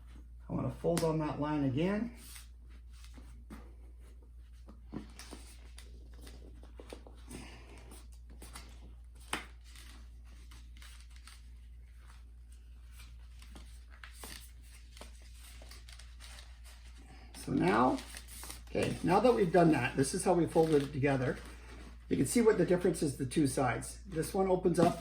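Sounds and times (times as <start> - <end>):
paper rustling: 2.2 - 23.0, 24.0 - 25.0.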